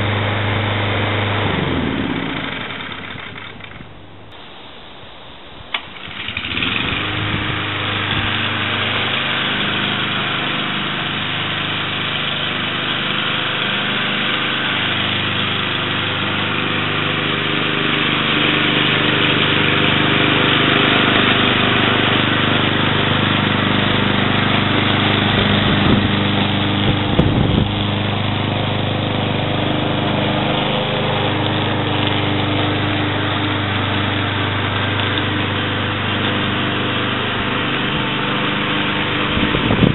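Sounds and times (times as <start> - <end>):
lawn mower engine running: 0.0 - 4.4, 5.7 - 39.9.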